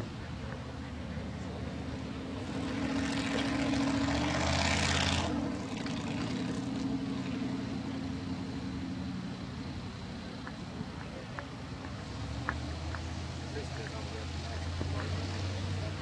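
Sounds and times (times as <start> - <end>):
engine passing by: 0.0 - 16.0.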